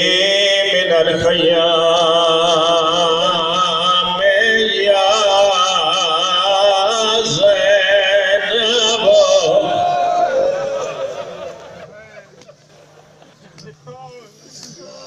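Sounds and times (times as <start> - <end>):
man chanting through a microphone: 0.0 - 12.1.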